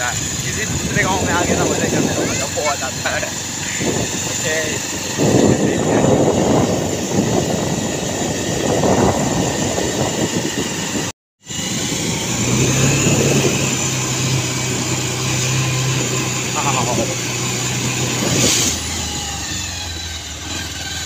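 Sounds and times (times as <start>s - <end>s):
wind rushing over microphone: 0.0s - 2.6s, 3.7s - 18.9s
motorcycle engine running: 0.0s - 21.0s.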